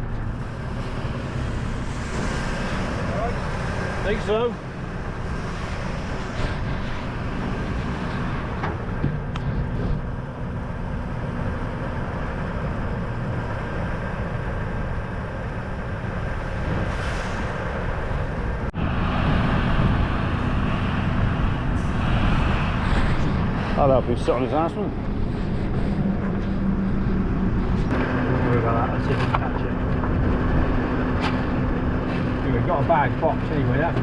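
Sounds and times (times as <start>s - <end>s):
tractor engine rumbling: 0.0s - 34.0s.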